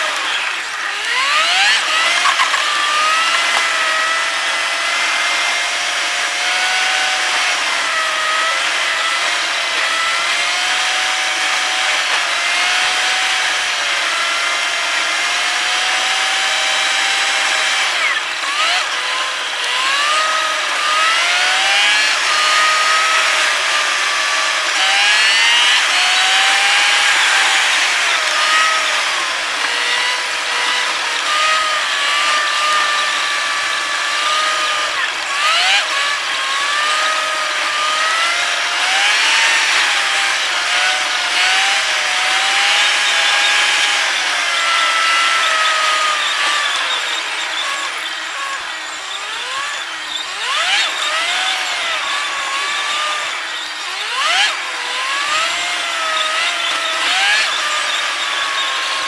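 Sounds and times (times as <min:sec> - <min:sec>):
sped-up car engine whine: 0:00.0 - 0:59.0.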